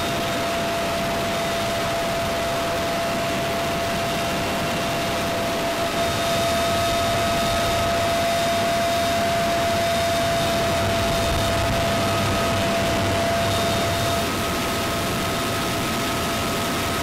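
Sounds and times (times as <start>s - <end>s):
helicopter engine and rotor: 0.0s - 17.0s.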